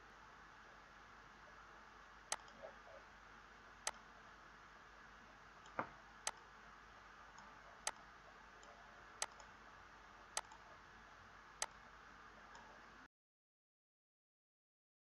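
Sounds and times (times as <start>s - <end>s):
faint steady hiss: 0.0s - 13.1s.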